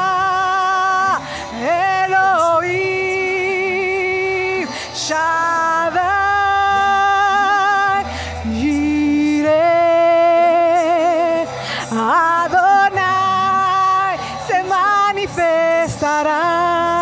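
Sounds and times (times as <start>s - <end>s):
woman singing worship song: 0.0s - 17.0s.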